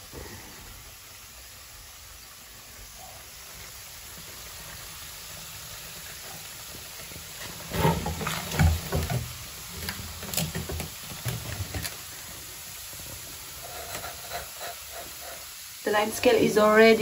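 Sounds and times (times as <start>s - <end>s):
solution fizzing in plastic tank: 0.0s - 17.0s.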